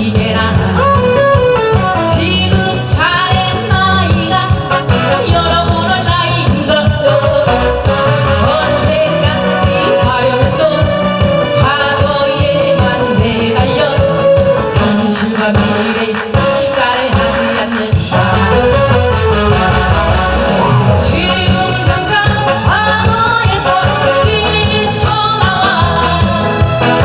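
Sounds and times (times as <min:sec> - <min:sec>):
woman singing into a microphone: 0:00.0 - 0:18.9, 0:21.0 - 0:27.0
backing track with steady beat: 0:00.0 - 0:27.0.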